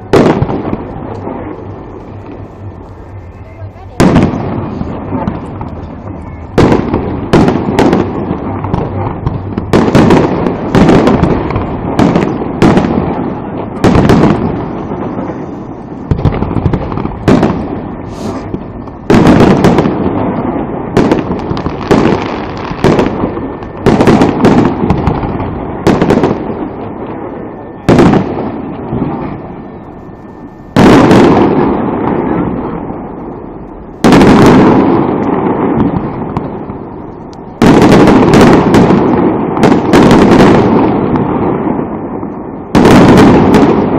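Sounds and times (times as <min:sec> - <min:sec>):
fireworks bangs: 0:00.0 - 0:43.9
rumbling echo: 0:00.0 - 0:43.9.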